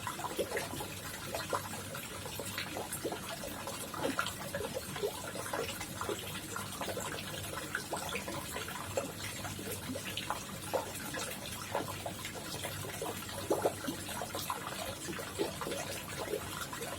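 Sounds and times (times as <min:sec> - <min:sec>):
pond water trickling and splashing: 0:00.0 - 0:16.9
water plops and gurgles: 0:00.0 - 0:16.9.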